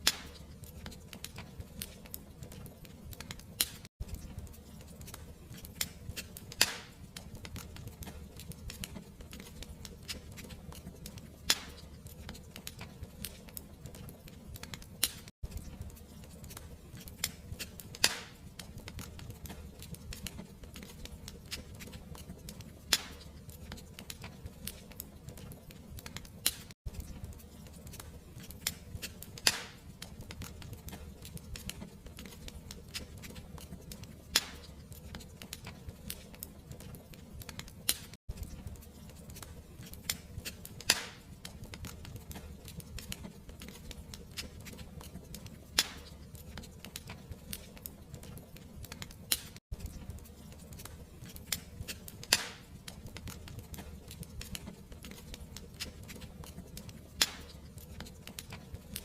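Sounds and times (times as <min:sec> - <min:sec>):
sharp fire snap: 0:00.0 - 0:59.0
wood fire crackling: 0:00.0 - 0:59.0.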